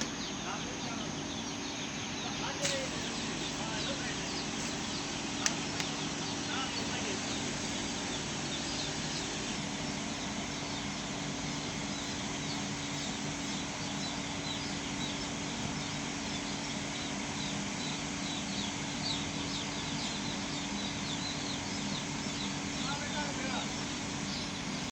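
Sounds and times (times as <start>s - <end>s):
chickens peeping and calling: 0.0s - 24.9s
constant low hum: 0.0s - 24.9s.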